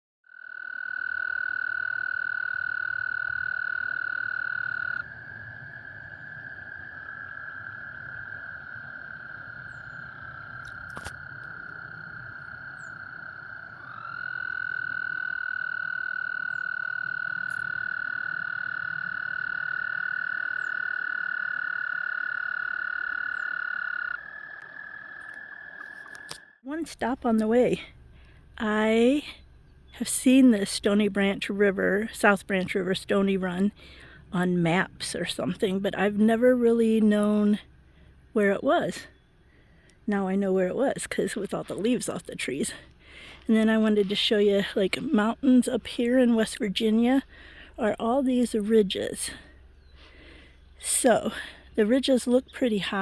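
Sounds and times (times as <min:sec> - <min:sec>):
frogs trilling: 0:00.2 - 0:53.0.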